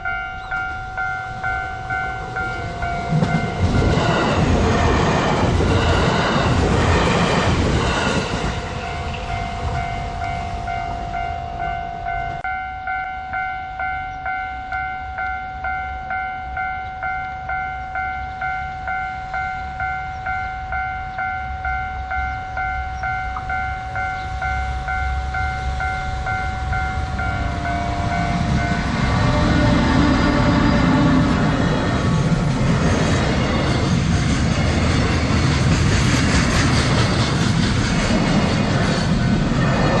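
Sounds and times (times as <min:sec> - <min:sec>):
electronic crossing warning bell: 0:00.0 - 0:34.2
approaching train rumble: 0:00.0 - 0:40.0
steady tone: 0:00.0 - 0:40.0
train wheels on rails: 0:00.0 - 0:40.0.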